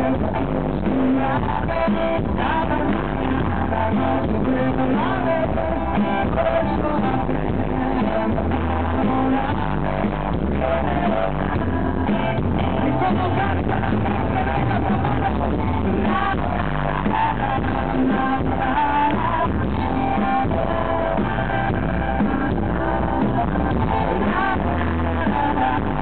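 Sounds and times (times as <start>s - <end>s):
bass guitar: 0.0s - 26.0s
drums: 0.0s - 26.0s
electric guitar: 0.0s - 26.0s
man singing: 0.0s - 26.0s.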